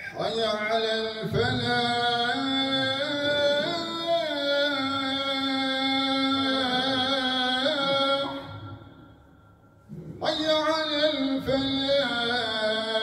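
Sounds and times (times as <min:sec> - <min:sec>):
man chanting call to prayer: 0:00.0 - 0:08.9, 0:09.9 - 0:13.0.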